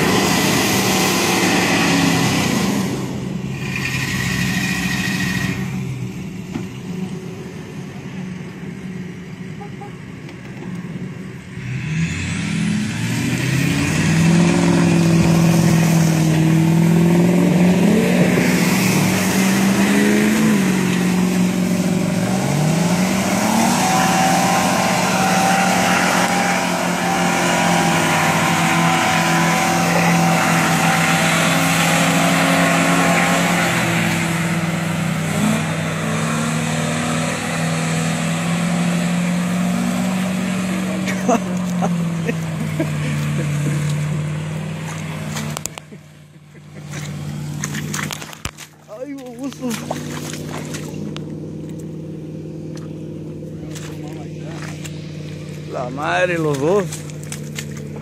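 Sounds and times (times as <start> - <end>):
truck engines revving under load: 0.0 - 58.0.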